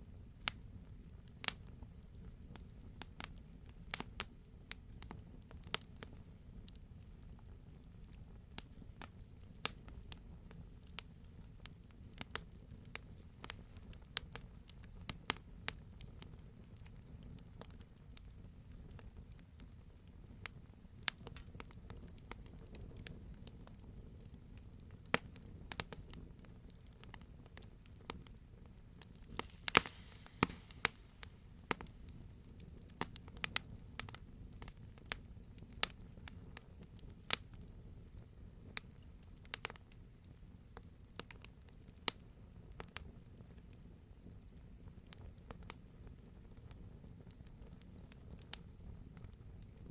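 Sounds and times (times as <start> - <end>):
campfire crackling and popping: 0.2 - 49.9.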